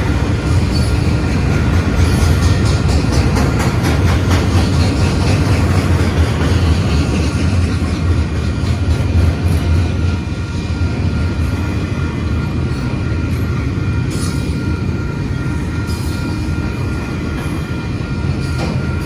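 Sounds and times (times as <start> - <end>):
freight train rolling on rails: 0.0 - 19.0.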